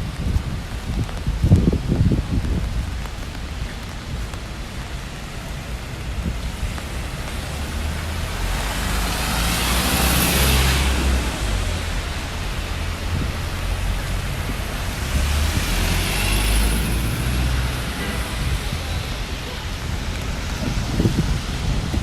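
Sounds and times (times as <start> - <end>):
rain hissing: 0.0 - 22.0
street traffic: 0.0 - 22.0
wind buffeting microphone: 0.0 - 22.0.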